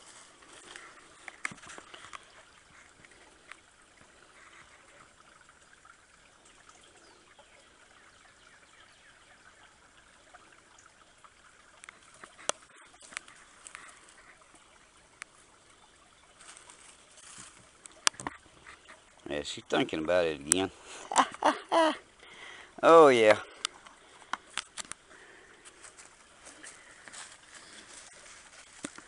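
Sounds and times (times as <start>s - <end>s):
creek water trickling: 0.0s - 29.0s.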